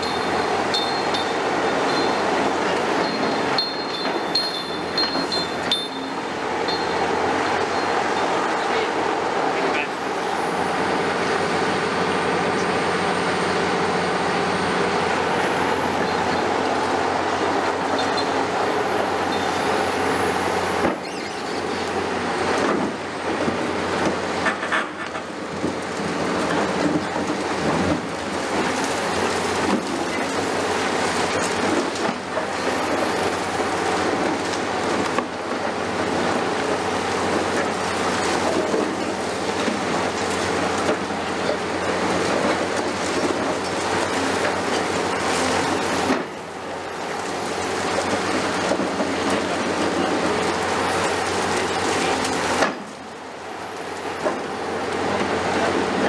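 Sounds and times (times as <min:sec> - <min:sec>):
excavator running: 0:00.0 - 0:56.0.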